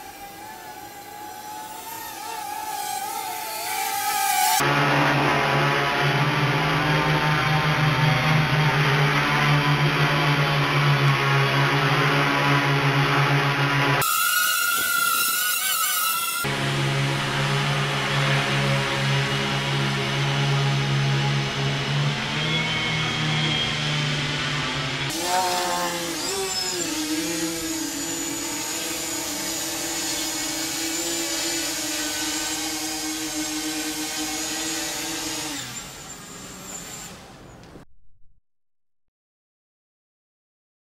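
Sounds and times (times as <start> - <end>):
wavering higher whine: 0.0 - 37.3
quadcopter motors humming: 0.0 - 37.6.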